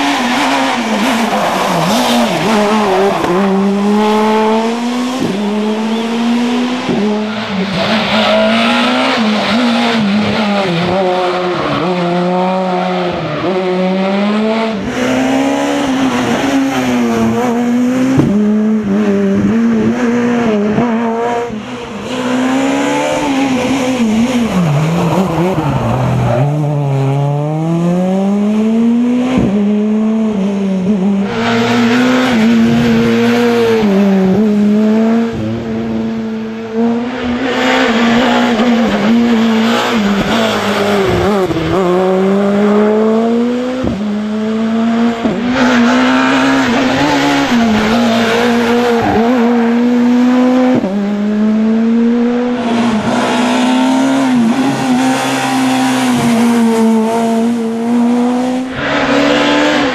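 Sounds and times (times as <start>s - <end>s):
rally car engine revving hard: 0.0s - 59.9s.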